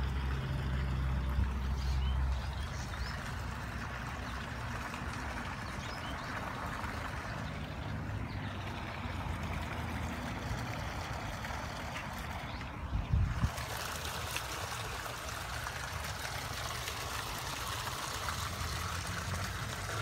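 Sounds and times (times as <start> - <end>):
low steady rumble: 0.0 - 20.0
trickling pond water: 0.0 - 20.0.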